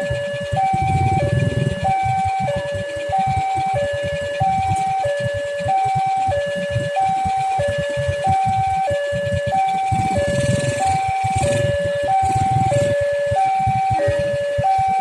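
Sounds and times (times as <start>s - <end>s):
level crossing two-tone alarm: 0.0s - 15.0s.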